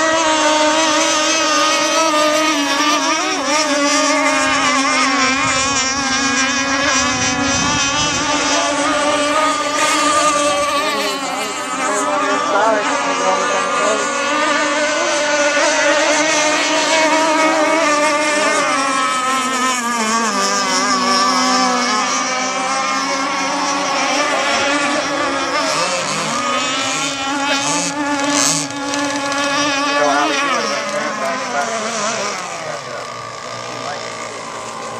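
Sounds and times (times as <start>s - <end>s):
model boat engines whining: 0.0s - 34.9s.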